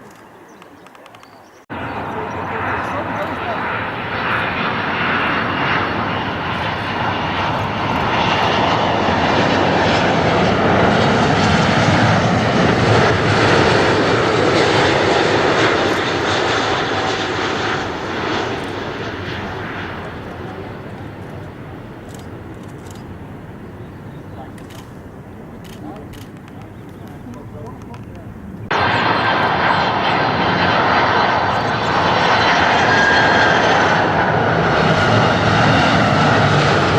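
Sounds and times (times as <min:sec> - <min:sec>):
airplane engine roar: 0:00.0 - 0:36.9.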